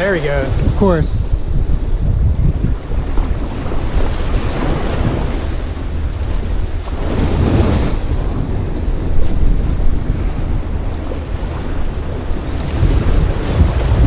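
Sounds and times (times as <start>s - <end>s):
wind buffeting microphone: 0.0s - 14.0s
small waves lapping at shore: 2.7s - 14.0s.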